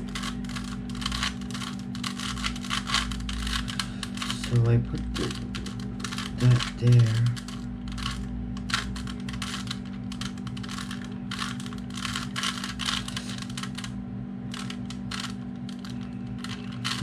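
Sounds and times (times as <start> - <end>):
puzzle cube plastic clicks: 0.0 - 13.9, 14.5 - 17.0
steady low hum: 0.0 - 17.0.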